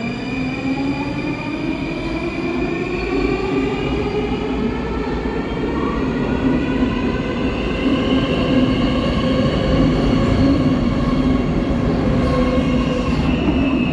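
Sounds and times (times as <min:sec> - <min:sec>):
metro train rumbling: 0:00.0 - 0:13.9.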